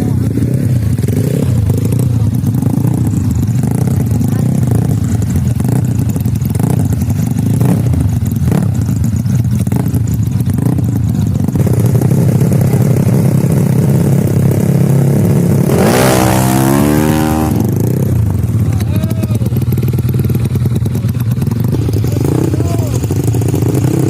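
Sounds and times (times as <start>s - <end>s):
scooter engine revving: 0.0s - 24.0s.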